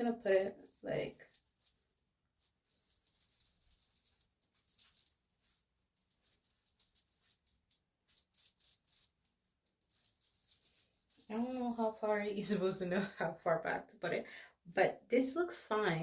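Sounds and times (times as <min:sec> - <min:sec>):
wig hair rustling: 0:00.0 - 0:13.1.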